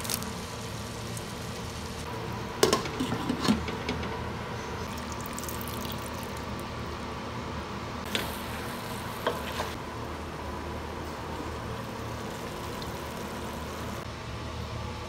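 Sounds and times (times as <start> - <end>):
faint sizzle: 0.0 - 3.4, 4.1 - 15.0.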